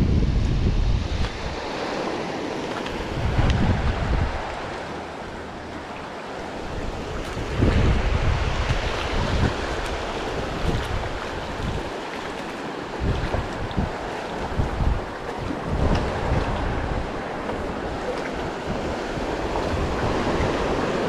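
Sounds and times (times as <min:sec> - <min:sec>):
surf breaking on a reef: 0:00.0 - 0:21.0
wind buffeting the microphone: 0:00.0 - 0:21.0.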